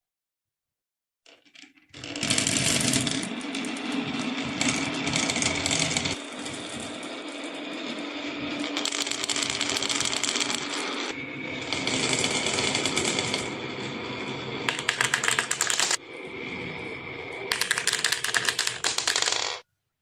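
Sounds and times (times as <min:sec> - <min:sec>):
marbles rattling down wooden run: 0:01.3 - 0:16.0, 0:17.5 - 0:19.6.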